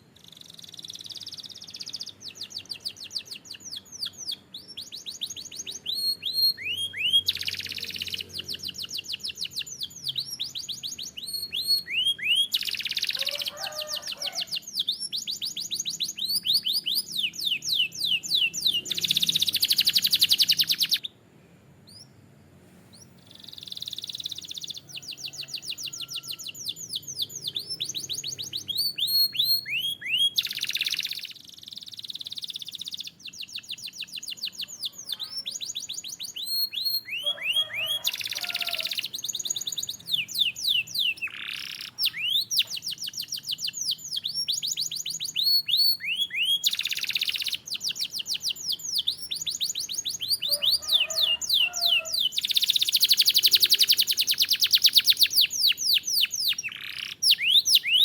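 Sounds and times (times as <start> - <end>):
canary singing trills: 0.0 - 21.2, 22.9 - 58.0.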